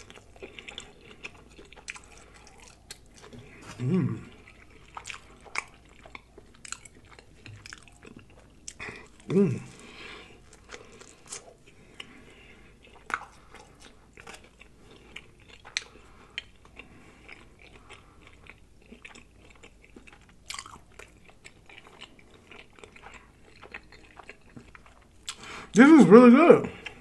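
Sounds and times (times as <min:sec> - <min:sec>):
person chewing with wet smacks: 0:00.0 - 0:25.5, 0:26.8 - 0:27.0.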